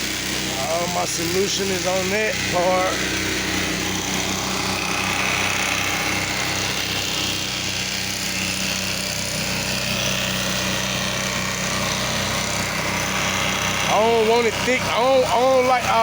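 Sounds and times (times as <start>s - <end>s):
gas engine running: 0.0s - 16.0s.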